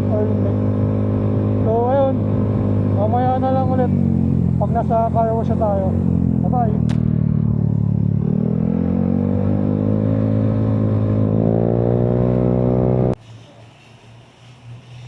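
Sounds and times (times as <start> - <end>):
motorcycle engine accelerating: 0.0 - 13.2.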